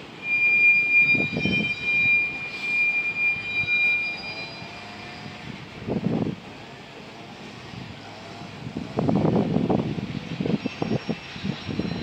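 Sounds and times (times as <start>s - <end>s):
train wheels squealing on rail: 0.0s - 12.0s.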